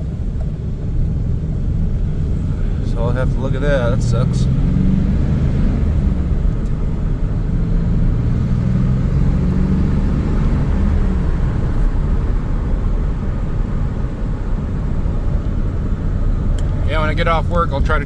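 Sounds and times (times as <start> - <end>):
road rumble: 0.0 - 18.0.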